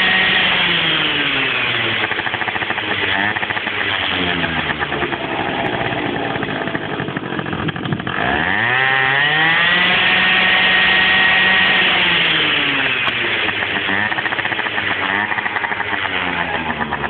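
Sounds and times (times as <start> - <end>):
small engine revving: 0.0 - 17.0.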